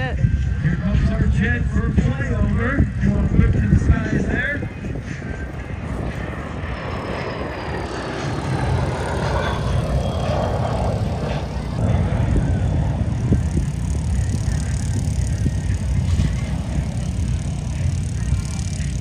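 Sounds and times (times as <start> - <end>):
jet aircraft rumble: 0.0 - 19.0.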